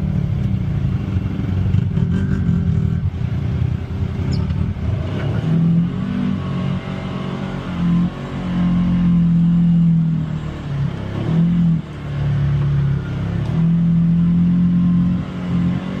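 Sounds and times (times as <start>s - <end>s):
utility vehicle engine surging: 0.0s - 16.0s.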